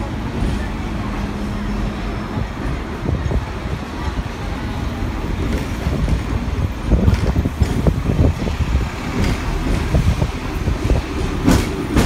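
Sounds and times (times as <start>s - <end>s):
tram knocks and clatter: 0.0s - 12.0s
tram rumbling on rails: 0.0s - 12.0s.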